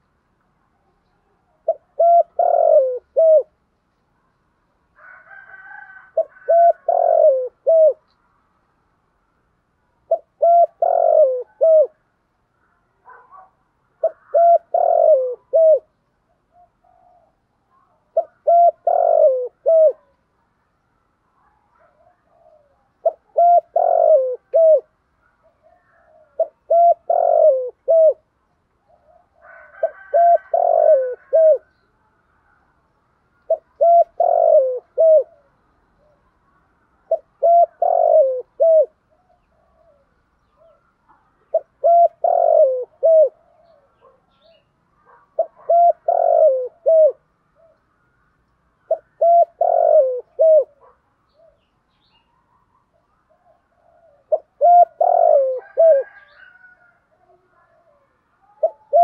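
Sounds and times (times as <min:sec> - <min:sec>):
dove cooing: 0:01.0 - 0:03.6, 0:05.0 - 0:08.0, 0:10.0 - 0:12.0, 0:13.0 - 0:20.2, 0:21.4 - 0:31.8, 0:33.5 - 0:36.2, 0:37.0 - 0:47.8, 0:48.9 - 0:51.7, 0:52.5 - 0:59.0.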